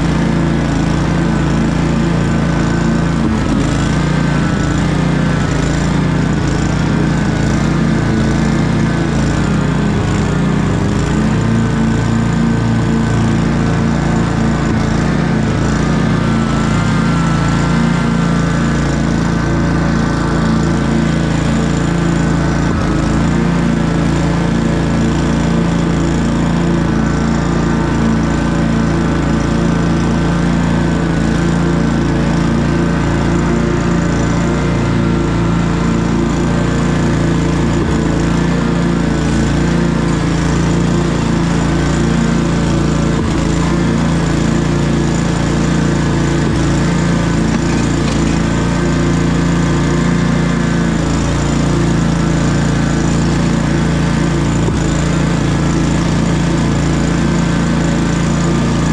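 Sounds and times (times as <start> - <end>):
lawn mower engine running: 0.0 - 58.9.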